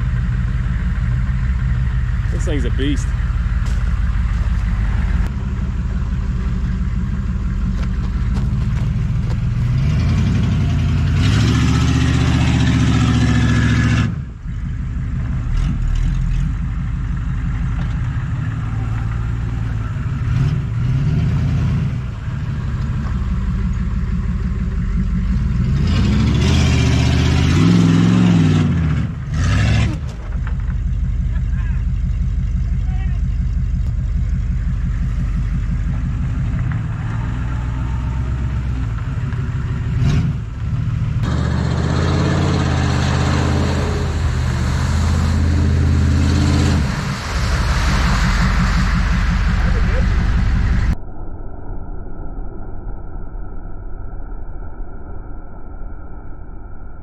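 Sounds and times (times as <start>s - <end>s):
diesel engine revving under load: 0.0s - 51.0s.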